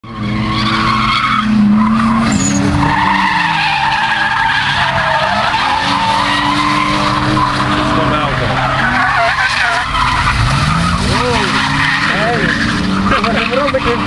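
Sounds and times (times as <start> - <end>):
car engine at high revs: 0.0 - 14.0
tyres squealing: 0.1 - 14.0.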